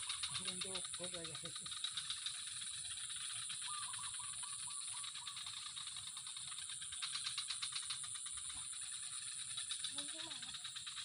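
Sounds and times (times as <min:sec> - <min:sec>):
rapid ratchet-like clicking: 0:00.0 - 0:11.0
steady high-pitched hiss: 0:00.0 - 0:11.0.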